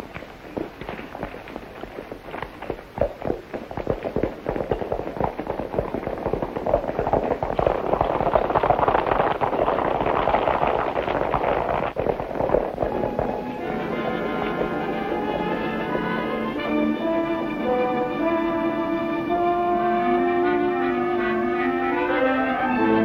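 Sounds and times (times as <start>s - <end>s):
horses galloping on dirt: 0.0s - 19.8s.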